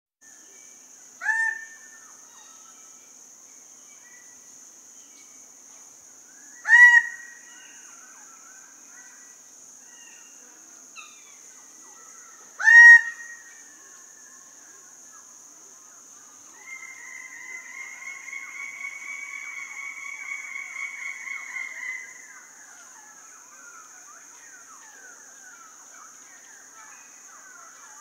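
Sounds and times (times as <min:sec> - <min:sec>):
steady high hiss: 0:00.2 - 0:28.0
faint bird calls: 0:00.4 - 0:03.2, 0:06.2 - 0:28.0.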